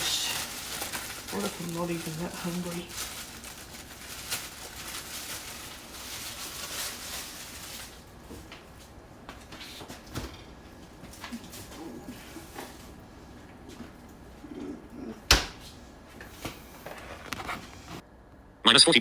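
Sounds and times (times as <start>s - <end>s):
bread rustling with clicks: 0.0s - 18.0s.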